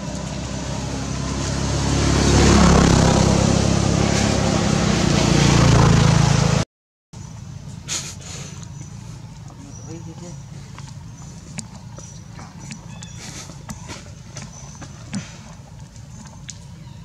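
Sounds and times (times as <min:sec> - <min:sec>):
vehicle engine running: 0:00.0 - 0:06.6, 0:07.2 - 0:17.0.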